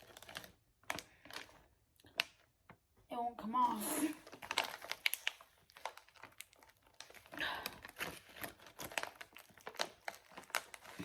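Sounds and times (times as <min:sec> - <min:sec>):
food pouch crinkling: 0:00.0 - 0:02.5, 0:04.2 - 0:11.0.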